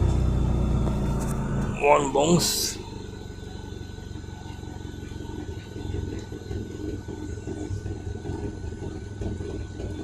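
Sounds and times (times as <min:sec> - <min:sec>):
car engine idling roughly: 0:00.0 - 0:10.0.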